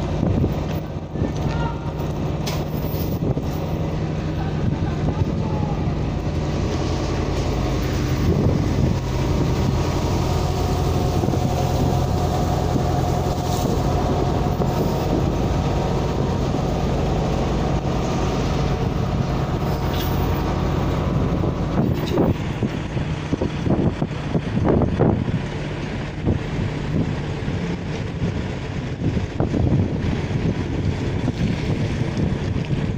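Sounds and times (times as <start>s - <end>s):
diesel engine idling: 0.0s - 32.9s
wind buffeting microphone: 0.0s - 32.9s.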